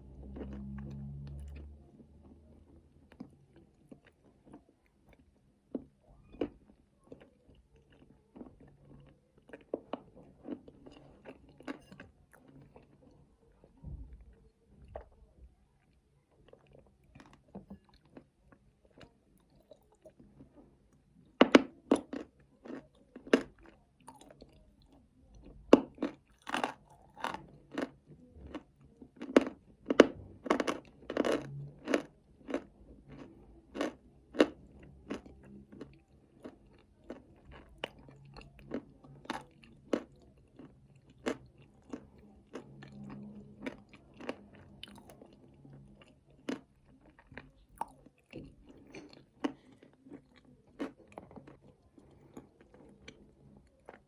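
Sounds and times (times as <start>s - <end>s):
chewing and crunching nuts: 0.0s - 54.0s.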